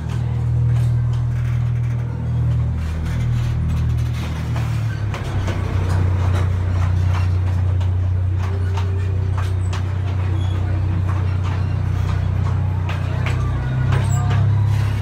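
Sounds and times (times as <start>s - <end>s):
train rumbling in tunnel: 0.0s - 15.0s
wheels clicking and rattling: 0.0s - 15.0s.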